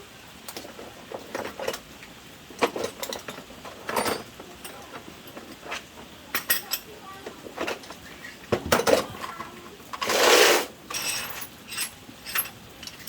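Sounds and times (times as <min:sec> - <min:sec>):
metal tools clinking: 0:02.5 - 0:13.0.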